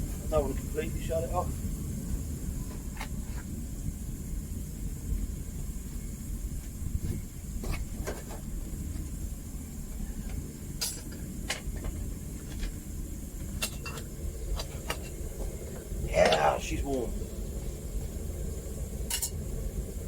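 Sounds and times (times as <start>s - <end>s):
propane burner rumbling: 0.0s - 20.0s.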